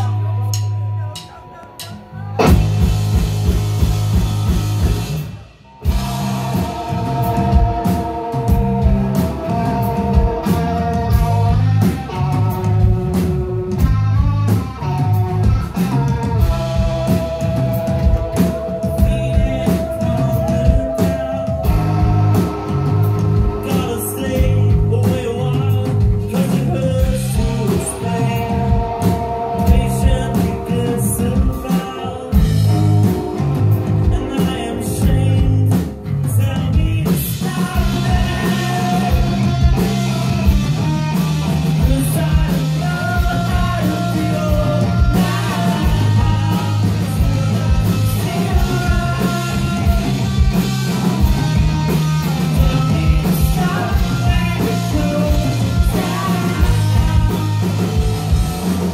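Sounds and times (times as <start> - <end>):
live rock band playing: 0.0 - 58.9
person singing: 5.6 - 13.2, 14.5 - 58.9.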